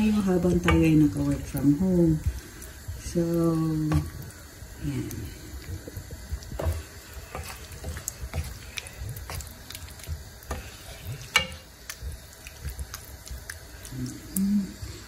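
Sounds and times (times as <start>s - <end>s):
wooden spoon scraping a pan: 0.0s - 2.8s, 3.8s - 13.9s
food simmering: 0.0s - 15.0s.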